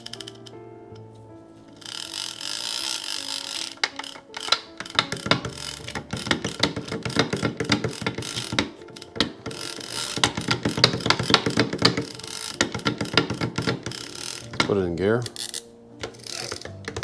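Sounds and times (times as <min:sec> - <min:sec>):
fishing reel ratchet clicking: 0:01.8 - 0:17.0.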